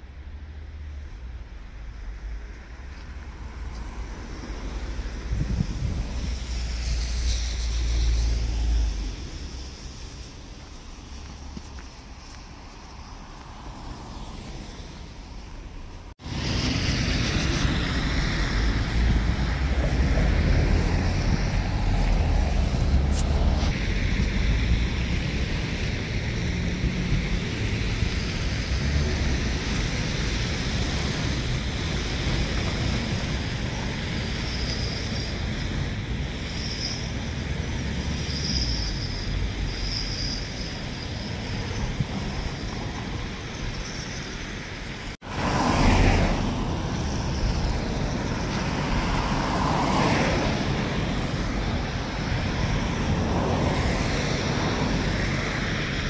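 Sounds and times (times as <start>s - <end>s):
wind rumbling on microphone: 0.1s - 56.0s.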